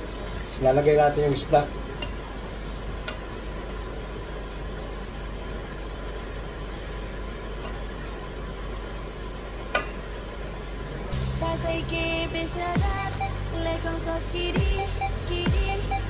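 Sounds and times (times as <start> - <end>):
whirring with low hum: 0.0 - 16.0.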